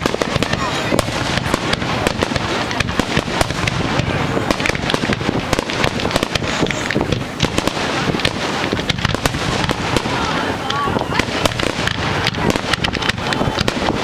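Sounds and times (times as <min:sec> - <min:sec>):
fireworks cracks and pops: 0:00.0 - 0:14.0.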